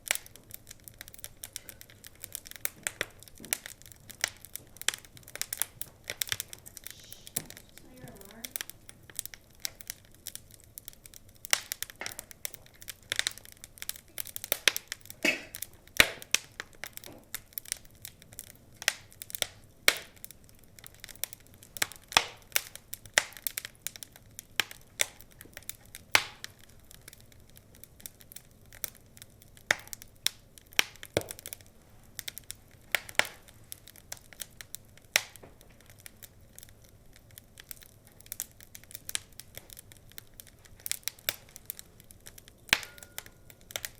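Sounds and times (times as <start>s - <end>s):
log fire crackling: 0.0s - 43.9s.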